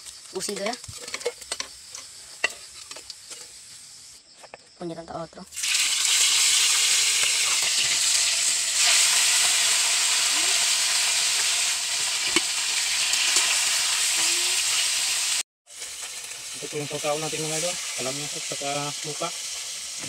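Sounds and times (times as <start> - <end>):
fish sizzling in hot oil: 0.0 - 4.2, 5.5 - 20.0.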